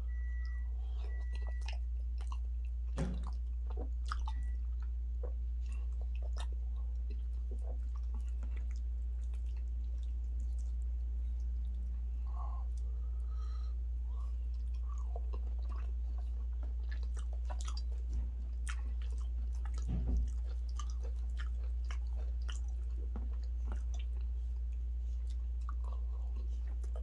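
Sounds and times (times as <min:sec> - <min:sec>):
steady low hum: 0:00.0 - 0:27.0
wet chewing and mouth clicks: 0:00.1 - 0:11.9, 0:14.2 - 0:27.0.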